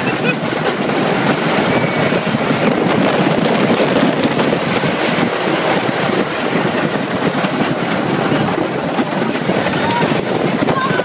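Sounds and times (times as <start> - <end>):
roller coaster rattle and rumble: 0.0 - 11.0
wind buffeting microphone: 0.0 - 11.0.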